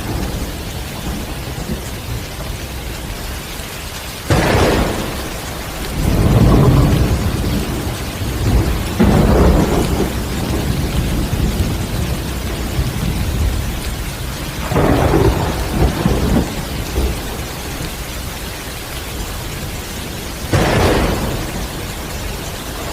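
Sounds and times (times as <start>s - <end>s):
heavy rain falling: 0.0s - 22.9s
thunder rumbling: 0.0s - 22.9s.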